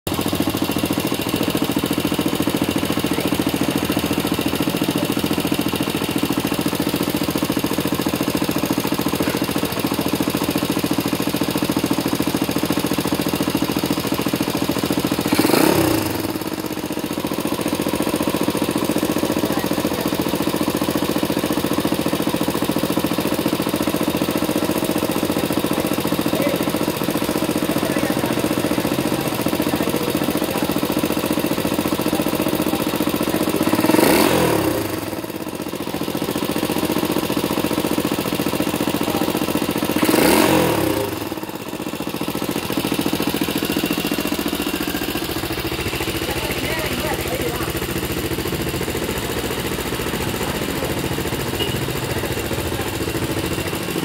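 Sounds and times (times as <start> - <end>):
motorcycle engine idling roughly: 0.0 - 54.0
motorcycle engine revving: 0.1 - 54.0.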